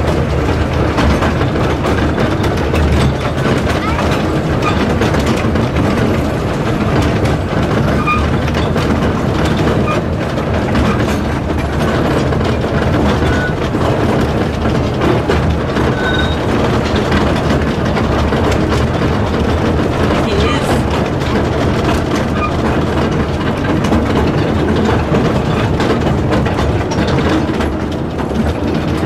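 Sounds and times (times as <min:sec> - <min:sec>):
train wheels clattering on track: 0:00.0 - 0:29.0.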